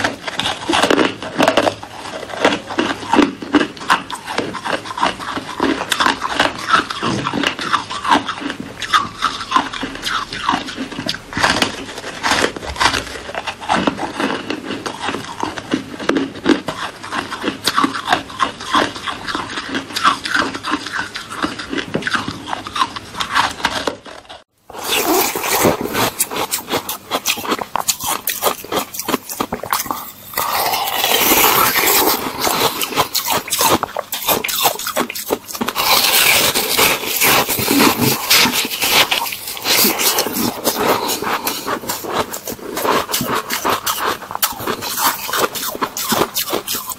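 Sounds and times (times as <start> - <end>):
ice crunching between teeth: 0.0 - 46.9.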